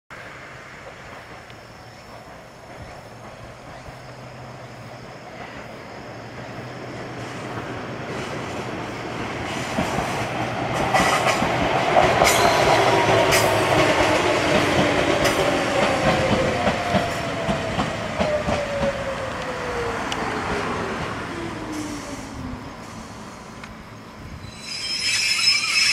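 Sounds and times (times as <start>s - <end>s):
electric train passing: 0.2s - 25.9s.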